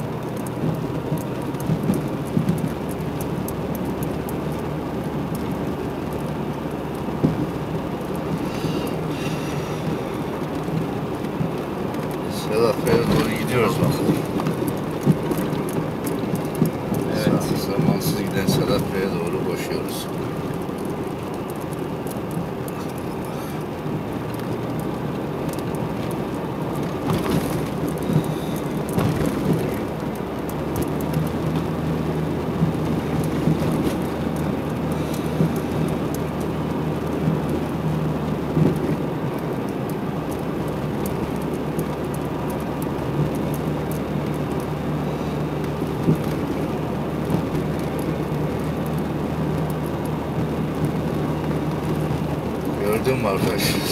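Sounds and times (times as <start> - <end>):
car engine and tyres rumbling: 0.0 - 53.9.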